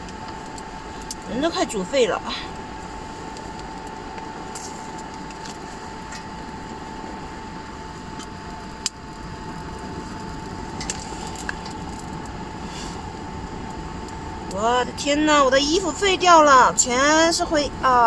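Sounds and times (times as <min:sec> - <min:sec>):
faint constant hum: 0:00.0 - 0:18.0
steady hiss: 0:00.0 - 0:18.0.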